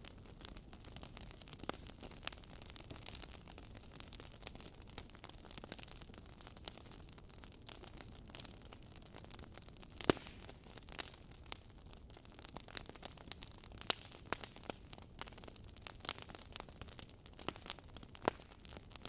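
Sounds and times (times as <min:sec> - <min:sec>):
logs crackling and popping: 0:00.0 - 0:19.0.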